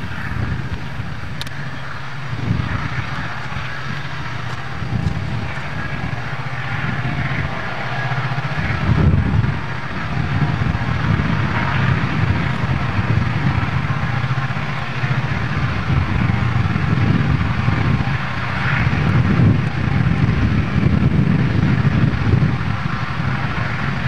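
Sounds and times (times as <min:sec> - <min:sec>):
locomotive engine rumble: 0:00.0 - 0:24.0.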